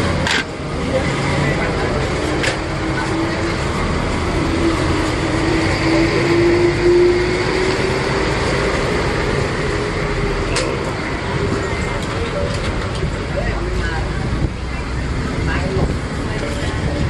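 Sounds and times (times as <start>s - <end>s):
vehicle rumble and road noise: 0.0s - 17.0s.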